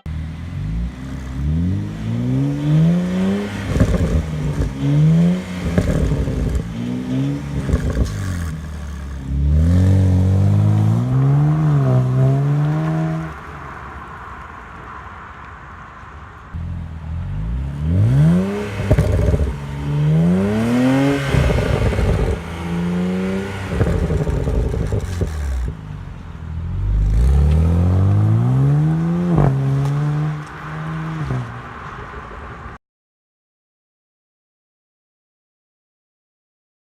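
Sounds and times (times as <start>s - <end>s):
car engine revving: 0.0s - 15.1s, 16.4s - 32.5s
exhaust cracks: 0.7s - 32.0s.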